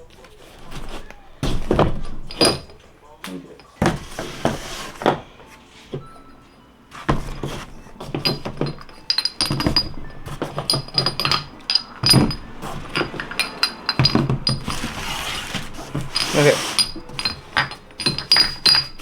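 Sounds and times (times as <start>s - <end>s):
metal parts clinking: 0.0s - 5.2s, 7.1s - 19.0s.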